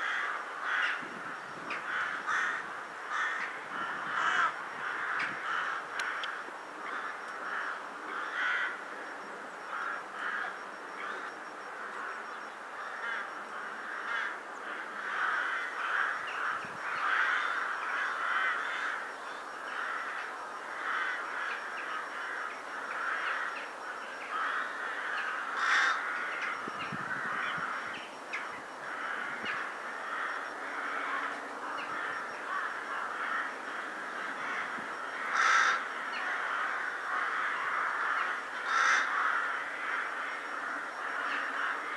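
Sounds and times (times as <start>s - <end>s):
flock of rooks cawing: 0.0s - 41.9s.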